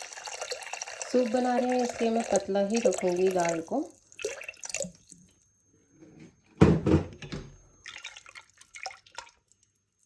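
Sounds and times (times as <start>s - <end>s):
water sloshing in a pot: 0.0s - 5.9s, 7.6s - 10.0s.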